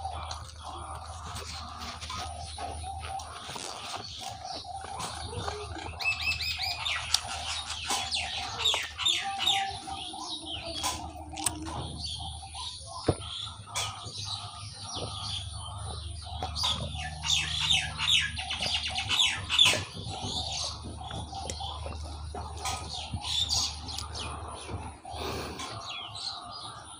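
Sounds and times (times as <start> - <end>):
small birds chirping: 0.0 - 26.9
steady low hum: 0.0 - 26.9.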